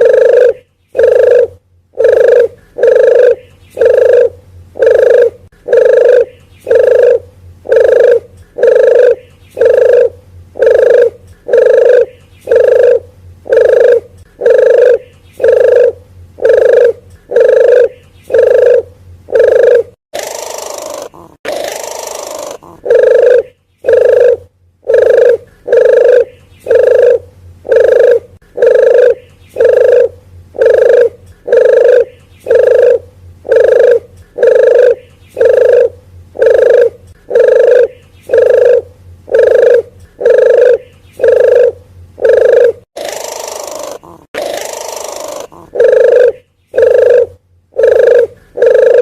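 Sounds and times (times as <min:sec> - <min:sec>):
dove cooing: 0:00.0 - 0:49.0
long gliding dove coo: 0:00.0 - 0:49.0.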